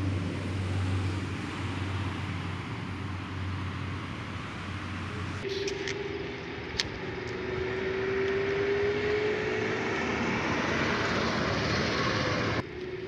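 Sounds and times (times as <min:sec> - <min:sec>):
engine hum: 0:00.0 - 0:13.0
road and wind noise: 0:00.0 - 0:13.0.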